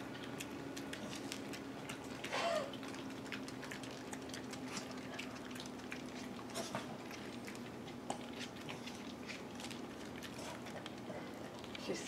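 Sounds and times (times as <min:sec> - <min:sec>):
dog licking and chewing: 0:00.0 - 0:12.0.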